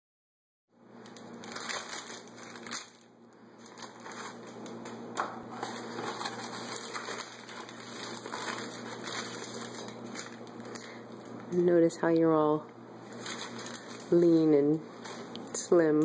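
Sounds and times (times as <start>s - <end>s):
paper wrappers crinkling: 1.0s - 12.0s, 13.0s - 15.7s.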